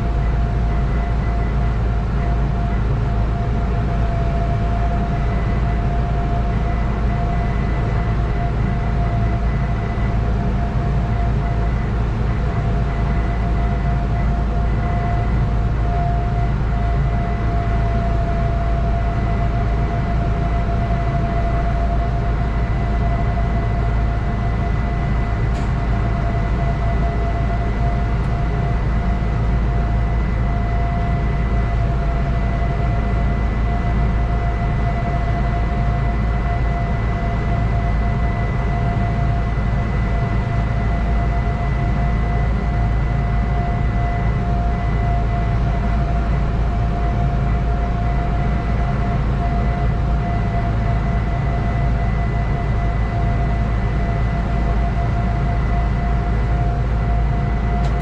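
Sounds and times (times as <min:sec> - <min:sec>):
constant whine: 0:00.0 - 0:58.0
electric train equipment hum: 0:00.0 - 0:58.0.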